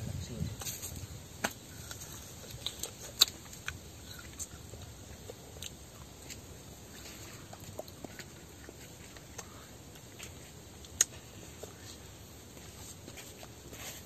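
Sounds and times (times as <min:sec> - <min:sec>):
child biting and chewing fruit: 0:01.4 - 0:14.0.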